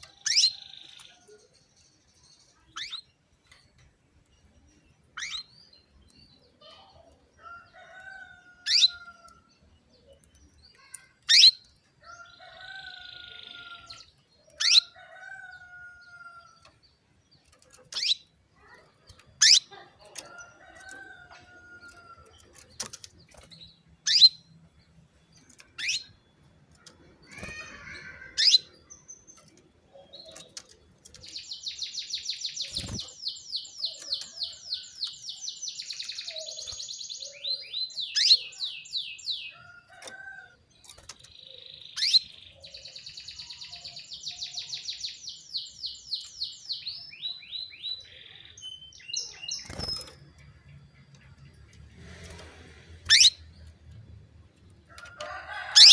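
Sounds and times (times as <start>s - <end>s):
canary chirping and trilling: 0.0s - 55.9s.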